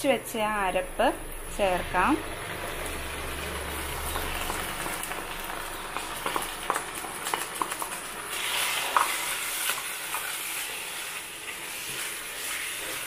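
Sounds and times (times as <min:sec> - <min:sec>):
paste frying sizzle: 0:00.0 - 0:13.0.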